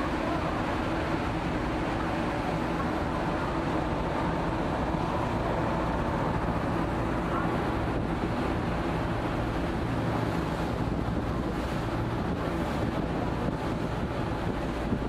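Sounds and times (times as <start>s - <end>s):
ferry engines humming: 0.0s - 15.0s
rush of churning wake: 0.0s - 15.0s
wind across deck: 0.0s - 15.0s.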